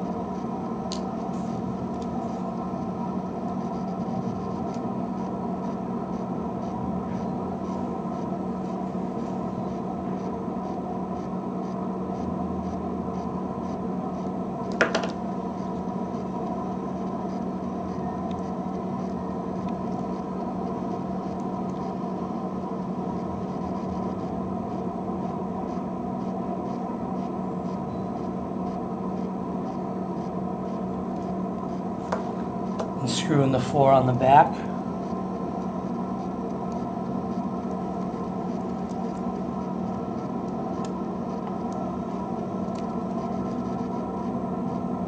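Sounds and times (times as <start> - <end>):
steady background hum: 0.0 - 45.0.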